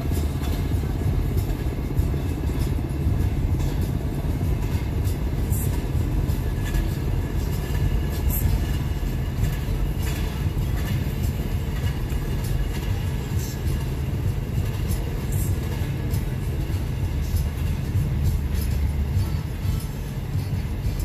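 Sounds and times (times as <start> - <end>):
vehicle rumbling: 0.0 - 21.0.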